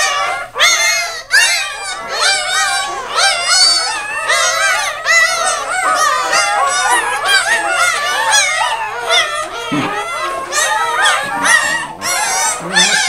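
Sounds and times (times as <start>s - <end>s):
puppies squeaking and squealing: 0.0s - 13.0s.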